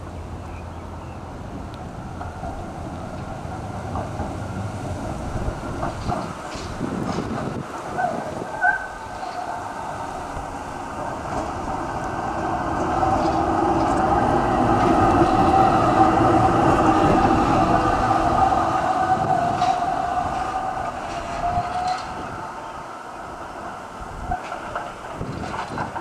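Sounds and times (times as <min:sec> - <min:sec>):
tram whining on track: 0:00.0 - 0:26.0.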